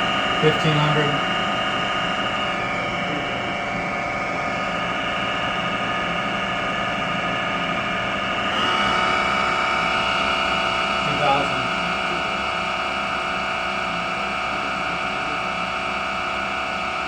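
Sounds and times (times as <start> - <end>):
milling spindle whine: 0.0 - 17.0.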